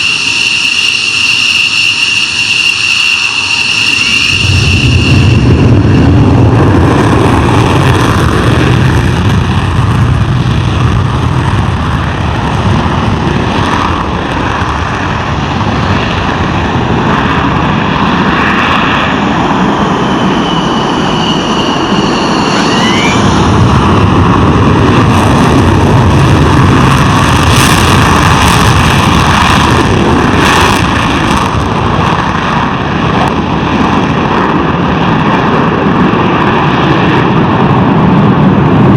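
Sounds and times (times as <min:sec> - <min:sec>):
military jet engines running: 0:00.0 - 0:38.9.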